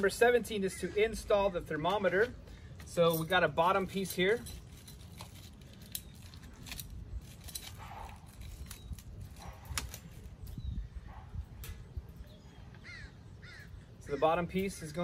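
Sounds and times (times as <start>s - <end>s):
low steady background rumble: 0.0s - 15.0s.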